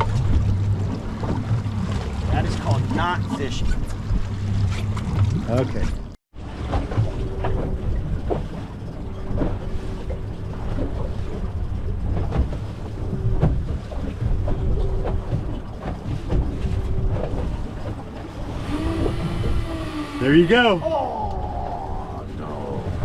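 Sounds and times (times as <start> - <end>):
water: 0.0 - 23.0
wind: 0.0 - 23.0.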